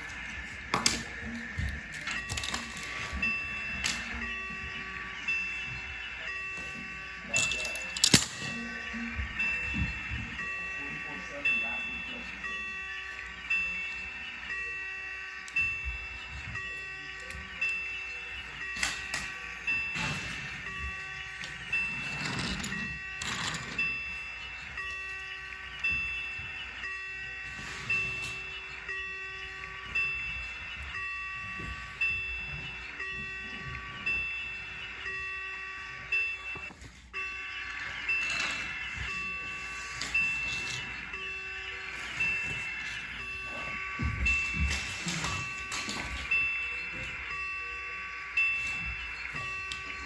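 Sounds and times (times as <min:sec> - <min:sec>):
electronic crossing bell dinging: 0:00.0 - 0:50.0.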